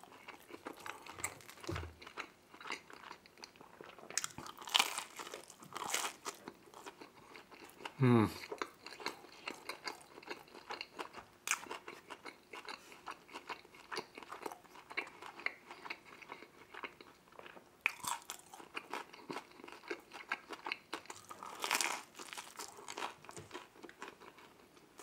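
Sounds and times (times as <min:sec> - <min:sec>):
person chewing and crunching: 0:00.0 - 0:25.0.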